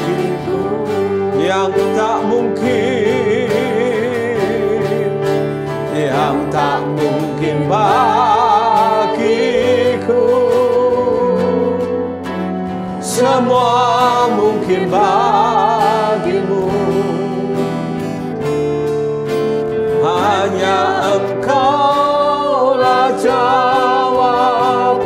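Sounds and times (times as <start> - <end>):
man and woman singing: 0.0 - 12.3, 12.9 - 18.0, 20.0 - 25.0
instrumental accompaniment: 0.0 - 25.0.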